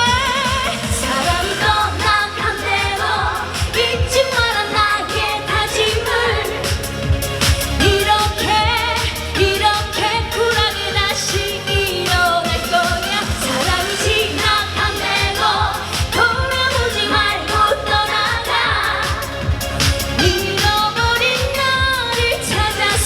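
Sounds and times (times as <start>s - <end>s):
woman singing with vibrato: 0.0s - 7.2s, 7.8s - 19.6s, 20.2s - 23.0s
backing track with steady beat: 0.0s - 23.0s.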